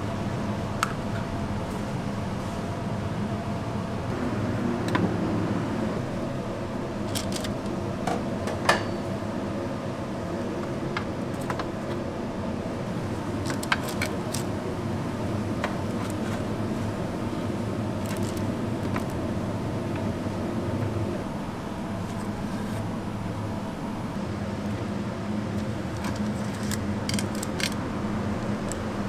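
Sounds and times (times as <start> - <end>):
kitchen fan humming: 0.0 - 29.0.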